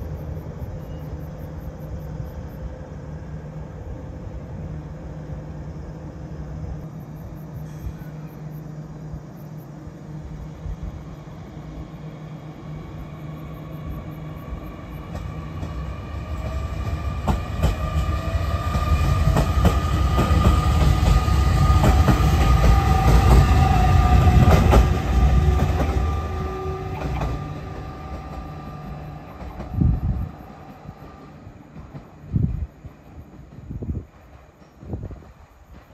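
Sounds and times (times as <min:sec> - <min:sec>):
train motor whine: 0:00.0 - 0:34.1
electric train rumble: 0:00.0 - 0:35.9.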